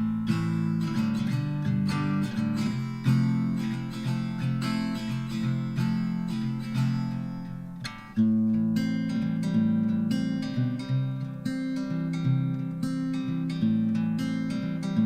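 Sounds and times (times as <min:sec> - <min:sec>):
acoustic guitar plucked and strummed: 0:00.0 - 0:15.0.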